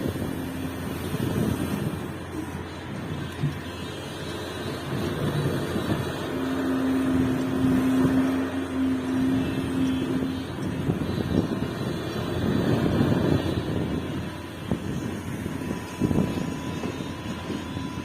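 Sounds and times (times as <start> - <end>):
excavator diesel engine running: 0.0 - 18.0
steady hum: 0.0 - 18.0.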